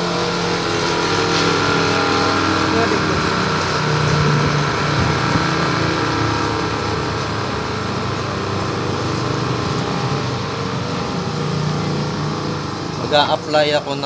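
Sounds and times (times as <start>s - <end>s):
small motor humming: 0.0s - 13.1s.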